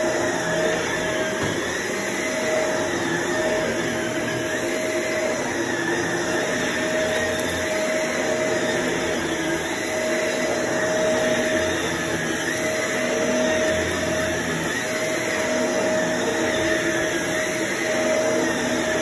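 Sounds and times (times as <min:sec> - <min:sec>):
vacuum cleaner running on carpet: 0:00.0 - 0:19.0.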